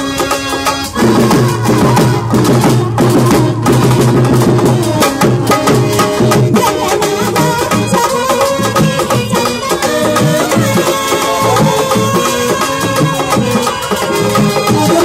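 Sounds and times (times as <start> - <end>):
hand drum struck rapidly: 0.0 - 15.0.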